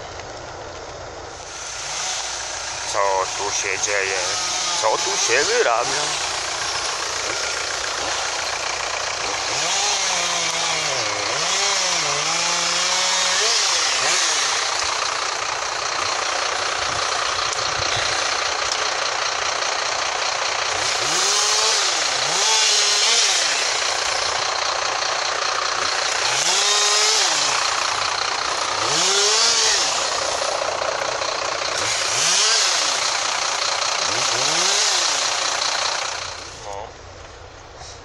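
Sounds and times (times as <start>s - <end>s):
chainsaws revving: 1.4s - 36.9s
steady mechanical din: 1.5s - 36.7s.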